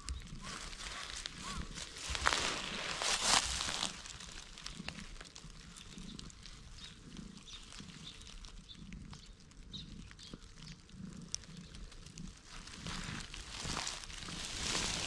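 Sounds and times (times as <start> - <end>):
dry leaves crackling: 0.0 - 9.1, 10.0 - 15.0
cat purring: 0.0 - 15.0.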